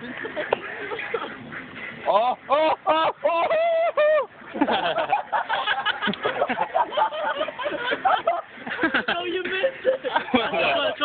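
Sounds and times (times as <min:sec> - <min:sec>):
people laughing: 0:00.0 - 0:01.4, 0:02.0 - 0:11.0
people chattering: 0:00.0 - 0:11.0.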